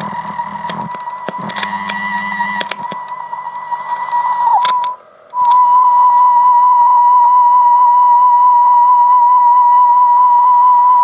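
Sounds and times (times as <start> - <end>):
wavering test tone from speaker: 0.0 - 11.0.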